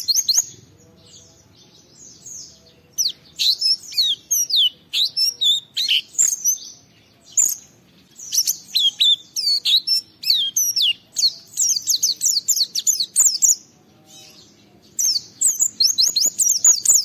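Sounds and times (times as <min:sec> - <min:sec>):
bird singing high whistled notes: 0:00.0 - 0:17.0.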